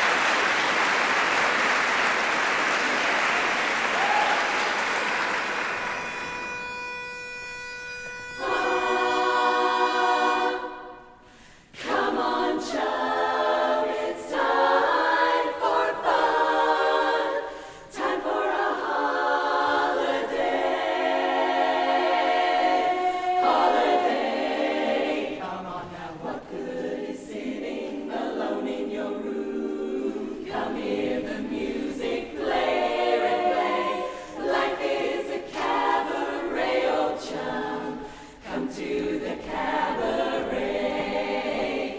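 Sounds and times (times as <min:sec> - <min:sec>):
a cappella chorus singing: 0:08.1 - 0:41.9.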